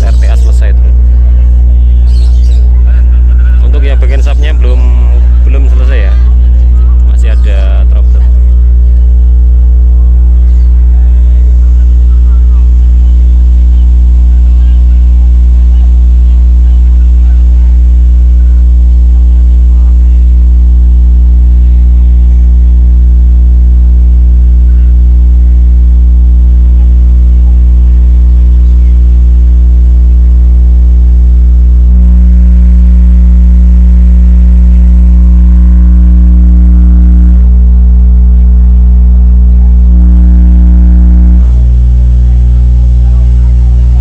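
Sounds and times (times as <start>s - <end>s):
higher hum: 0.0s - 44.0s
subwoofer bass drone: 0.0s - 44.0s.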